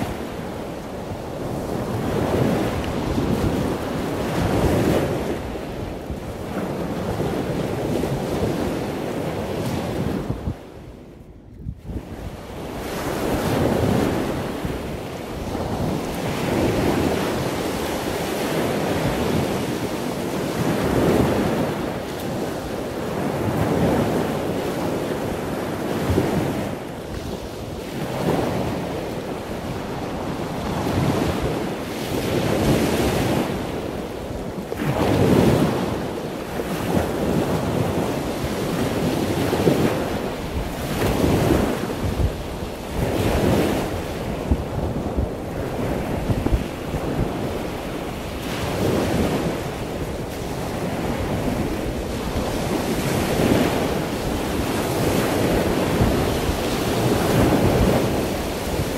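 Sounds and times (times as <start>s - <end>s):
surf washing onto beach: 0.0s - 11.0s, 11.8s - 58.9s
wind buffeting microphone: 0.0s - 58.9s.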